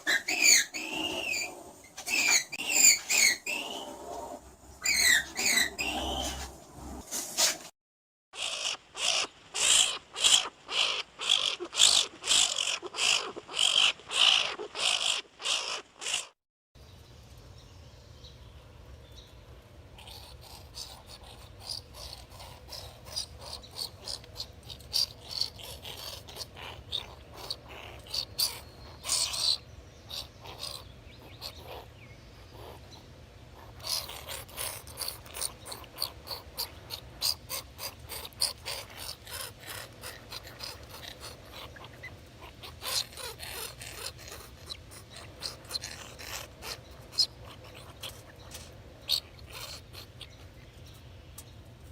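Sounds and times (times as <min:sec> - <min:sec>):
skunk squeaks and chirps: 0:00.0 - 0:03.9, 0:04.8 - 0:06.5, 0:08.4 - 0:16.3, 0:20.0 - 0:51.6.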